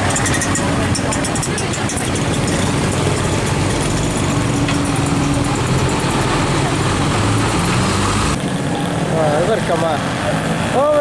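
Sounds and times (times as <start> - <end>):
heavy truck engine running: 0.0 - 10.4.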